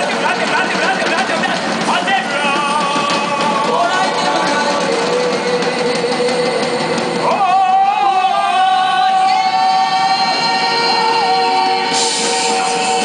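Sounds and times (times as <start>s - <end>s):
steady drone: 0.0s - 13.0s.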